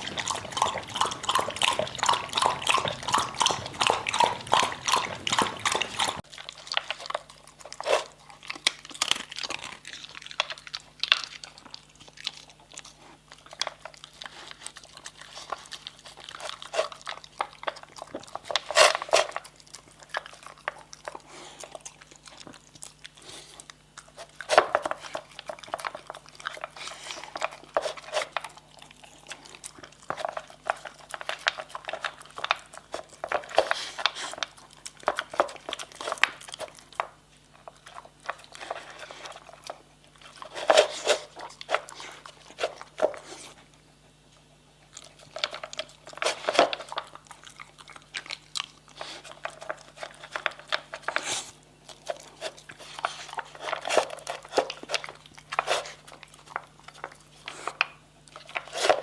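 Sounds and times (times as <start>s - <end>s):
dog chewing and crunching: 0.0s - 59.0s.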